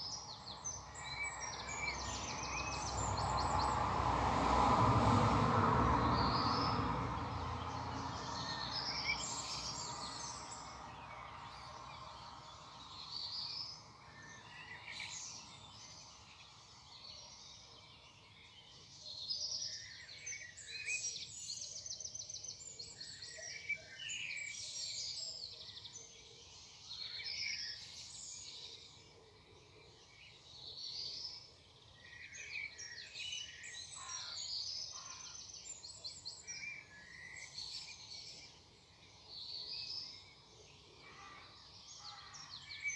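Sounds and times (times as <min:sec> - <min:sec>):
birds singing: 0:00.0 - 0:03.9, 0:06.0 - 0:42.9.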